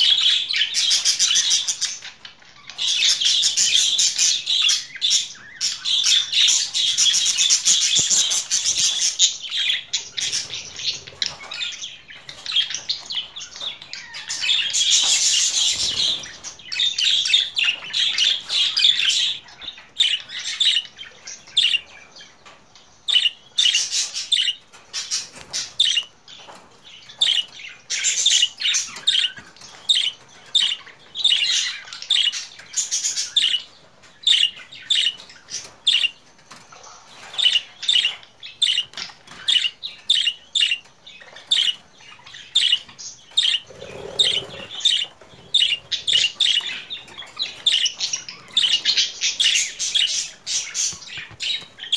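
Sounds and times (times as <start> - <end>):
budgerigars warbling and chirping: 0.0 - 51.9.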